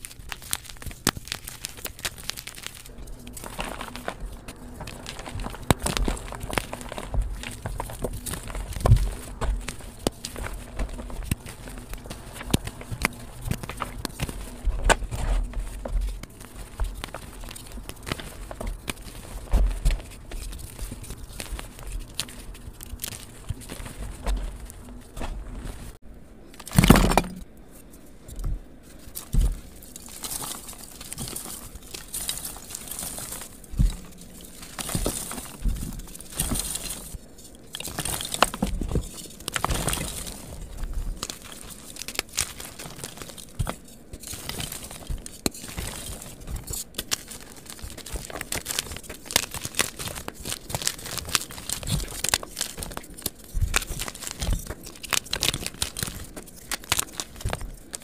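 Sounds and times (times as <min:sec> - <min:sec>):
chalk crunching by hand: 0:00.0 - 0:26.0, 0:28.8 - 0:58.0.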